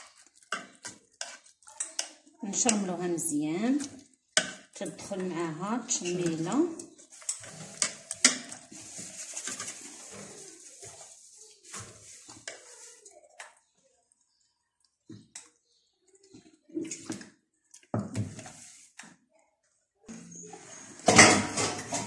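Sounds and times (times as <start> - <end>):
wet squelching of raw chicken: 0.0 - 4.8, 5.9 - 19.2.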